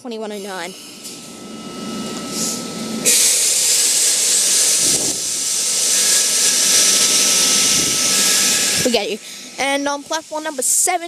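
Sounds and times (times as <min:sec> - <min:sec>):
compressed air hissing: 0:00.5 - 0:11.0.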